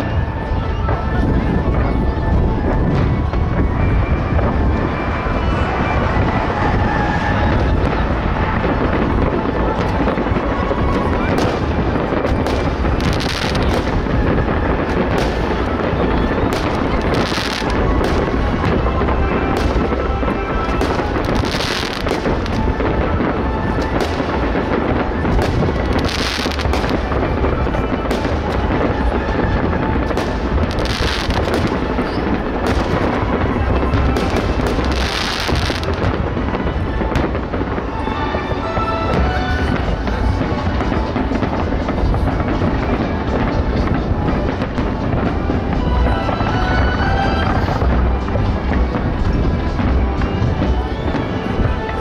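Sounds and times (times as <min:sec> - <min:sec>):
fireworks bangs and booms: 0:00.0 - 0:52.0
fireworks crackle: 0:00.0 - 0:52.0.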